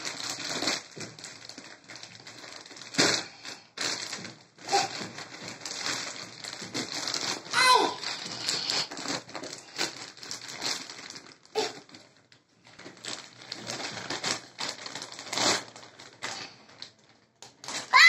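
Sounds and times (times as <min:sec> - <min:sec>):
wrapping paper crinkling and tearing: 0:00.0 - 0:18.0.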